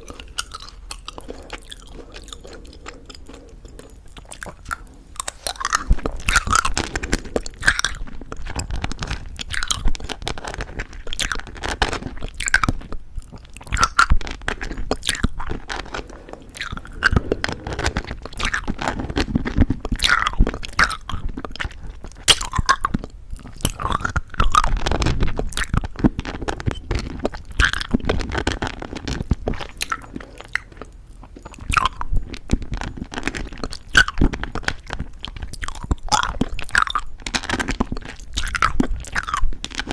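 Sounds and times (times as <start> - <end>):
candy shell crackling between teeth: 0.0 - 39.9
soft wet chewing: 0.0 - 39.9.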